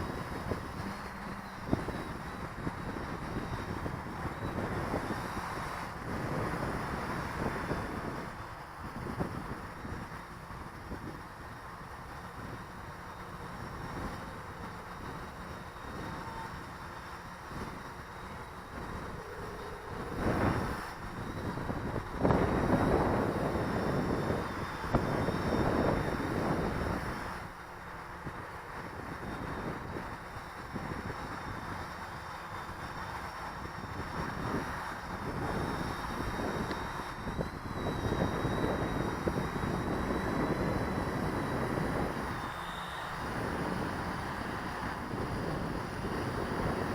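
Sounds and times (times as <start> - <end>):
drone motors high whine: 0.0 - 46.9
wind buffeting on microphone: 0.0 - 46.9.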